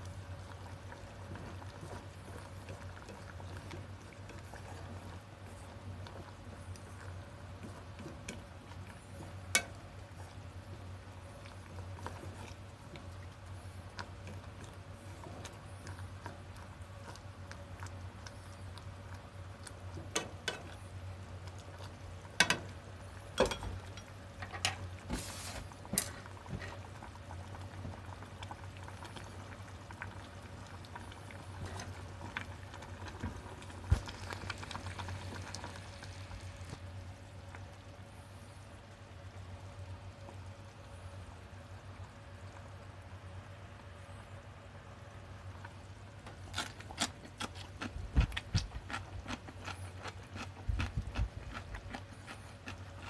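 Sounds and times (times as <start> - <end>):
soup bubbling in metal pot: 0.0 - 46.4
low burner hum: 0.0 - 53.0.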